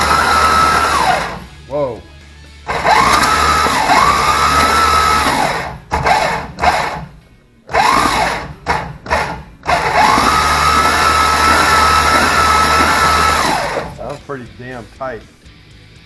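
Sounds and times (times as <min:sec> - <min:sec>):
starter motor cranking engine: 0:00.0 - 0:01.5, 0:02.6 - 0:14.1.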